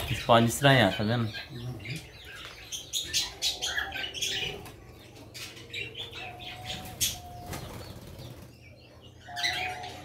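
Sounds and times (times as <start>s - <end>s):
bird calls: 0.0s - 10.0s.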